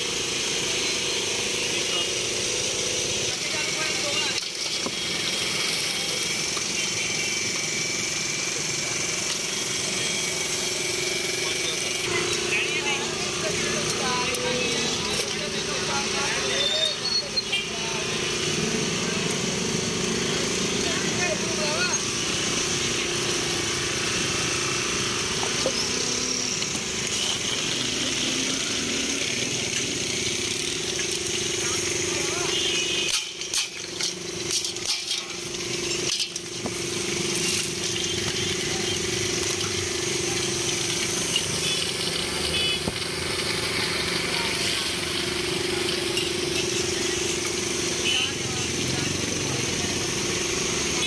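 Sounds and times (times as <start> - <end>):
blender motor humming: 0.0 - 51.0
street noise: 0.0 - 51.0.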